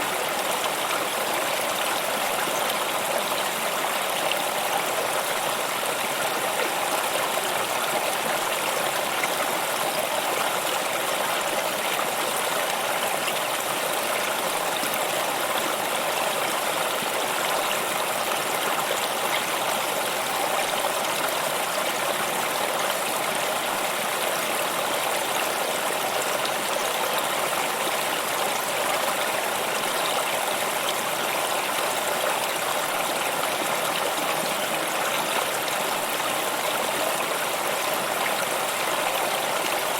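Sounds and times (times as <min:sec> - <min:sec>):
water stream flowing: 0:00.0 - 0:39.9.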